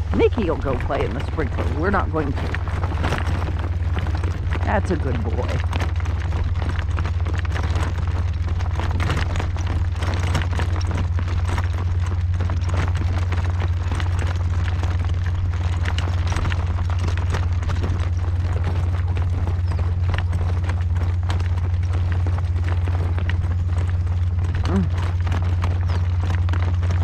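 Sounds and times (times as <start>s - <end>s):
horse hooves clip-clopping: 0.0s - 27.0s
wind buffeting microphone: 0.0s - 27.0s.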